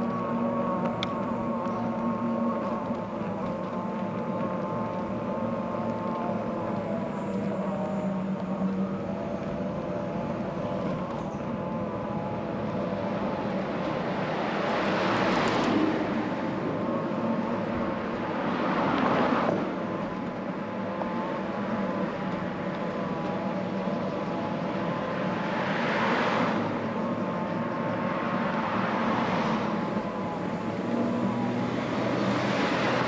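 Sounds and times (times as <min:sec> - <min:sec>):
steady traffic hum: 0:00.0 - 0:33.0
vehicles passing: 0:00.0 - 0:33.0.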